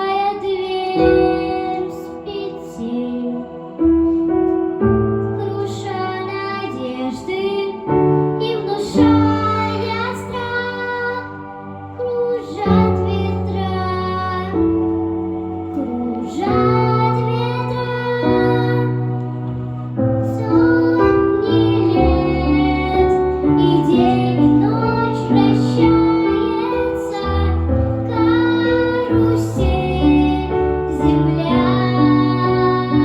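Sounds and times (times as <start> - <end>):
children singing: 0.0 - 33.0
instrumental accompaniment: 0.0 - 33.0.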